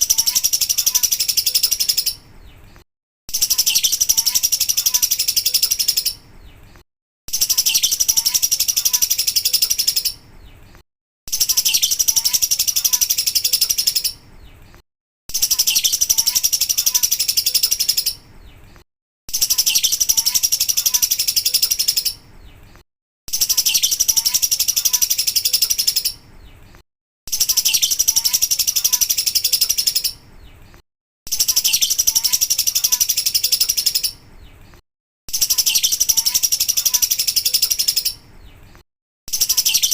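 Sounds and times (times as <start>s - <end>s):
lovebird chattering song: 0.0s - 2.6s, 3.3s - 6.6s, 7.3s - 10.6s, 11.3s - 14.6s, 15.3s - 18.6s, 19.3s - 22.7s, 23.3s - 26.6s, 27.3s - 30.6s, 31.3s - 34.6s, 35.3s - 38.6s, 39.3s - 39.9s.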